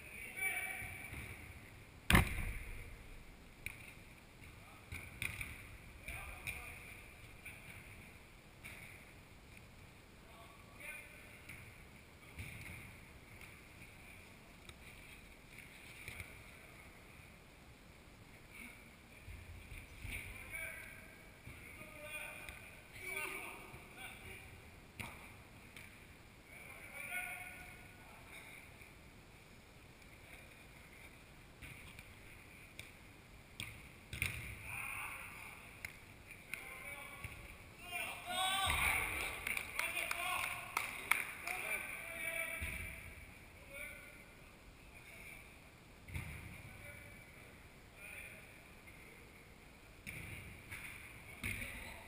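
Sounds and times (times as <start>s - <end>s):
distant activity in a hall: 0.0s - 52.0s
steady background hiss: 0.0s - 52.0s.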